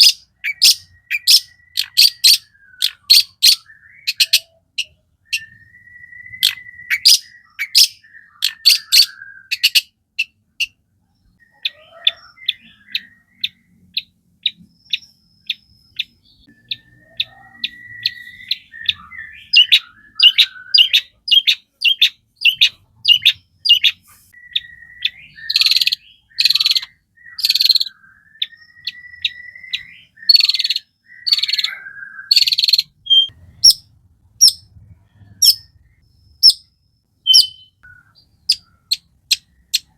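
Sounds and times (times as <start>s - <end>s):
shrike singing: 0.0s - 33.8s, 34.4s - 39.9s.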